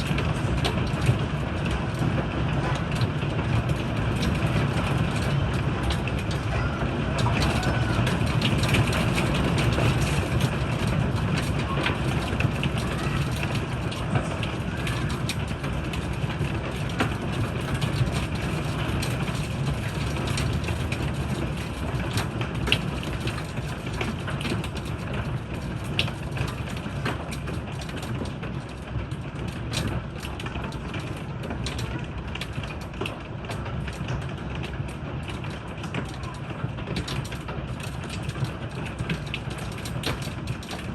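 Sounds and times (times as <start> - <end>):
hailstones clicking: 0.0 - 40.9
heavy rain rushing: 0.0 - 40.9.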